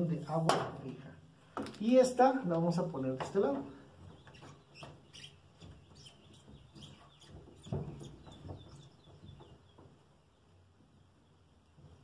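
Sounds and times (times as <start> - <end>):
birds chirping: 1.2 - 12.0.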